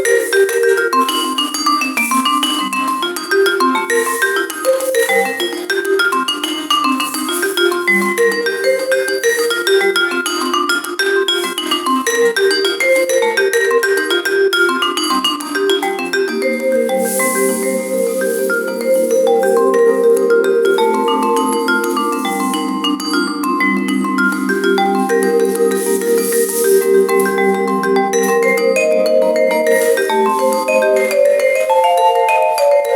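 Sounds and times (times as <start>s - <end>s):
marimba-like mallet music: 0.0s - 32.9s.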